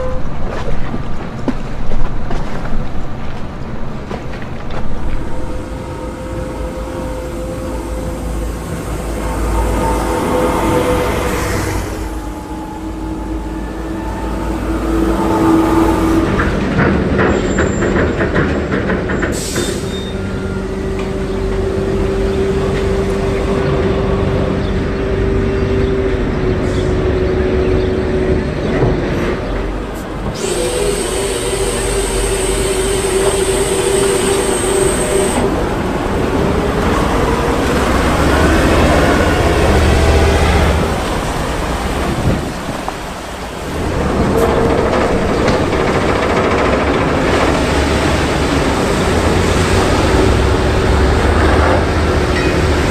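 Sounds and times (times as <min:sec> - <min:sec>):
heavy vehicle engine: 0:03.2 - 0:52.9.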